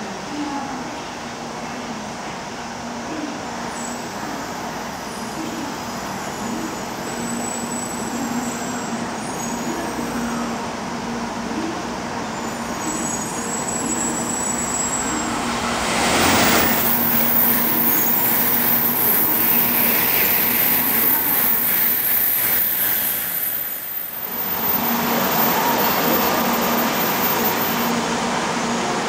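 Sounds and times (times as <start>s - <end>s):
train cab running noise: 3.9s - 29.0s.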